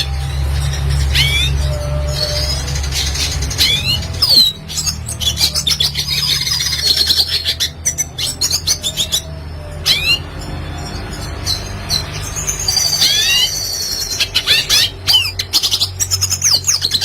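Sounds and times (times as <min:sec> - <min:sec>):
bird chirping and trilling: 0:00.0 - 0:17.0.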